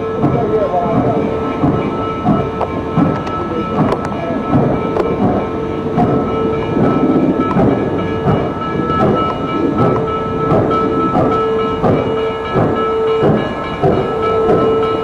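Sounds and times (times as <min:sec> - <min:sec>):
steam locomotive exhaust beats: 0:00.0 - 0:15.0
steam whine and hiss: 0:00.0 - 0:15.0.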